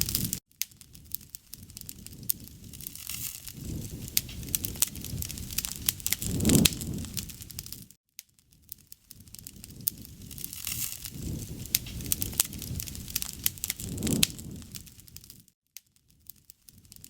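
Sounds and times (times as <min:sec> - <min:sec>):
rush of flame: 0:00.0 - 0:08.0, 0:08.6 - 0:15.5
wood fire crackling and popping: 0:00.0 - 0:17.0.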